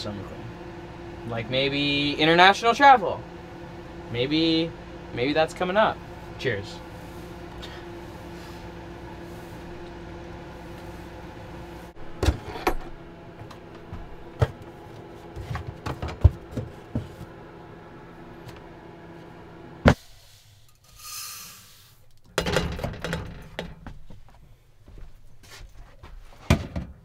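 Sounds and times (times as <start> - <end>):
furnace fan hum: 0.0 - 27.0.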